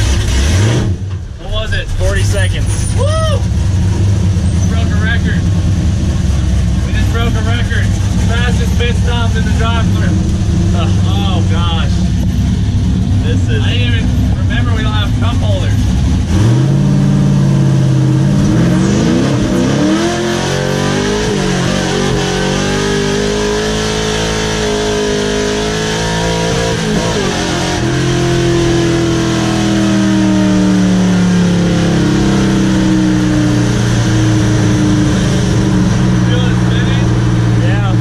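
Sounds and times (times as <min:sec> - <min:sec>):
truck engine revving and droning: 0:00.0 - 0:38.0.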